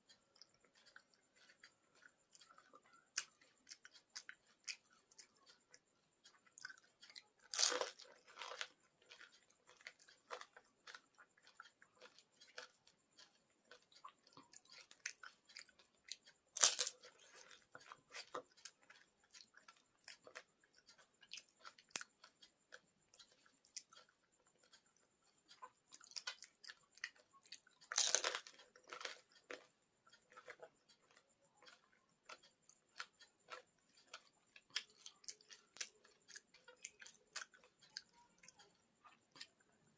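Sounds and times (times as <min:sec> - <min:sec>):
wet chewing clicks: 0:00.0 - 0:39.9
crunching bites: 0:00.4 - 0:24.8, 0:25.5 - 0:39.6.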